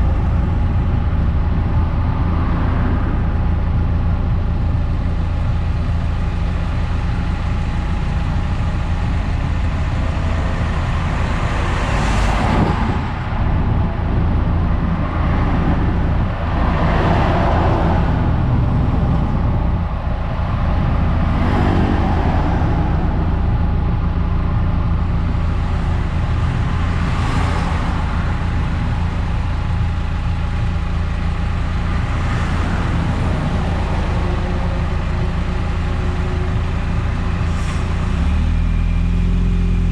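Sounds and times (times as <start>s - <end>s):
rushing noise: 0.0s - 39.0s
car engine and road drone: 0.0s - 39.9s.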